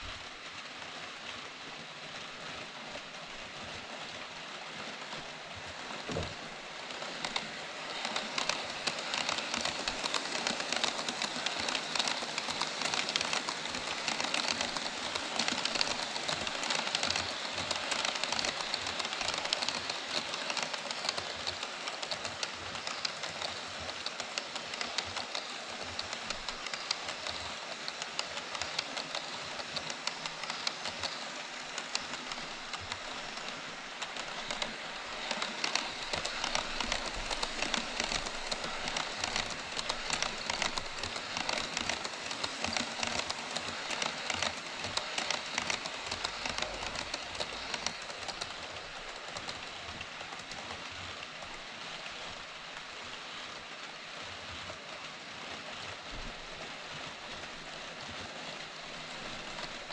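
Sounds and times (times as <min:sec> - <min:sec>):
model train wheels clattering: 0:00.0 - 0:59.9.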